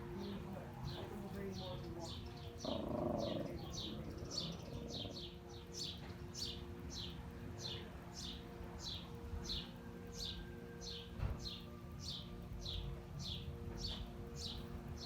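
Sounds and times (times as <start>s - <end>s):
low city rumble: 0.0s - 15.0s
songbird chirping: 0.0s - 15.0s.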